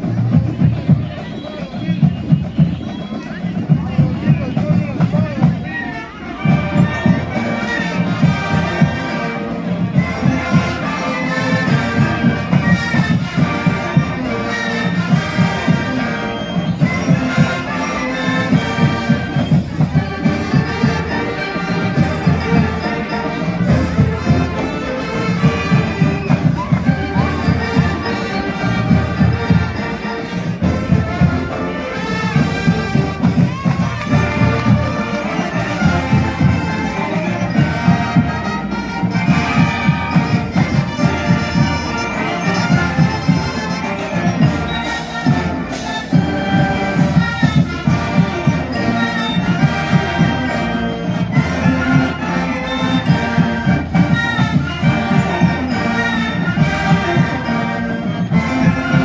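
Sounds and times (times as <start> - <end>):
marching band playing: 0.0 - 59.0.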